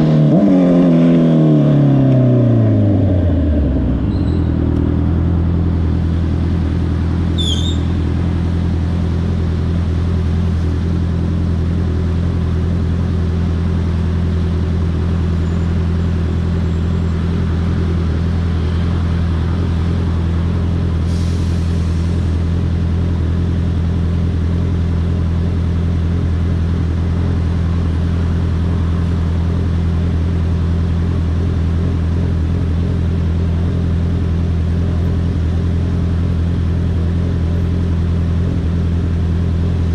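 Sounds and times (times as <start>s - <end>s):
motorcycle engine idling: 3.4s - 21.0s, 22.1s - 39.9s.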